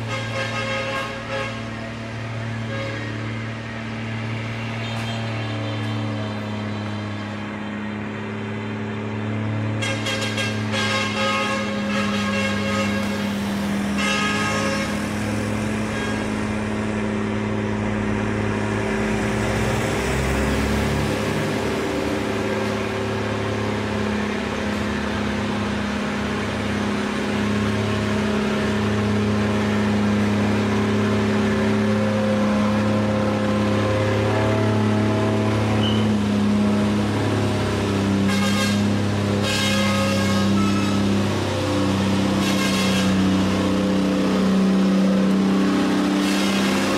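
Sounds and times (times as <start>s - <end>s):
truck diesel engine labouring uphill: 0.0s - 46.9s.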